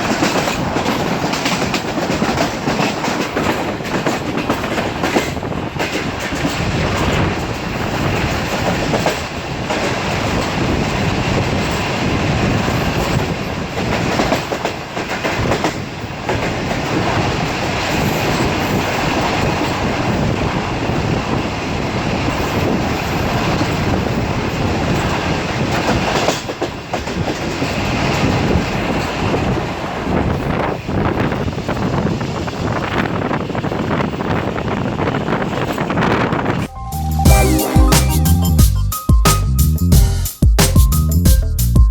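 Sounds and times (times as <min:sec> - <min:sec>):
wheels clicking over rail joints: 0:00.0 - 0:36.7
train rumbling: 0:00.0 - 0:41.9.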